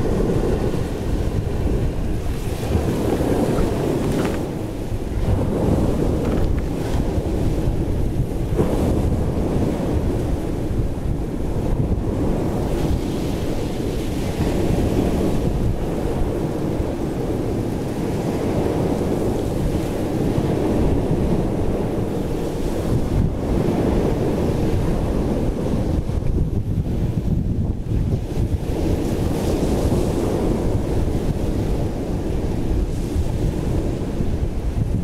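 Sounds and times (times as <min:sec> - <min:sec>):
sea waves washing: 0:00.0 - 0:35.0
wind buffeting microphone: 0:00.0 - 0:35.0.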